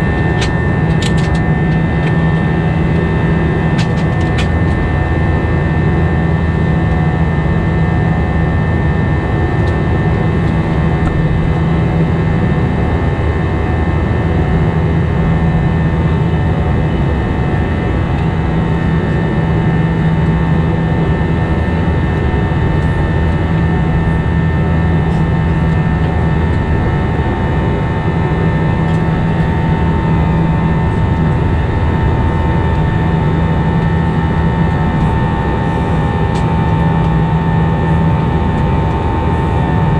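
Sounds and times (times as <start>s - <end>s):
constant whine: 0.0s - 39.9s
jet engine and airflow drone: 0.0s - 39.9s
low hum: 0.0s - 39.9s.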